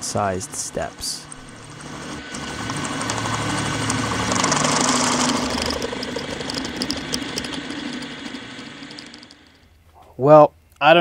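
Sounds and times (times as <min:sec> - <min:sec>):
end mill grinding into metal: 0:00.0 - 0:09.9
spindle hum: 0:00.0 - 0:09.9.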